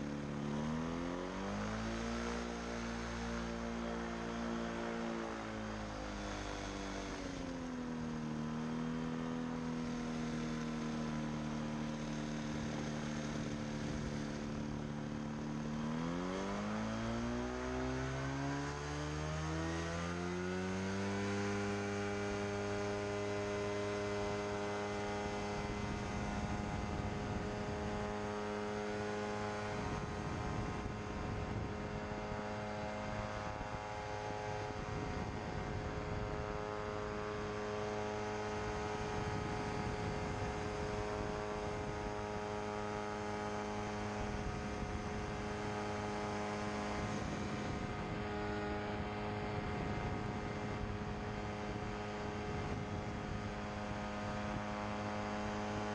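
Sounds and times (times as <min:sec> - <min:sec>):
aircraft engine and propeller droning: 0:00.0 - 0:55.9.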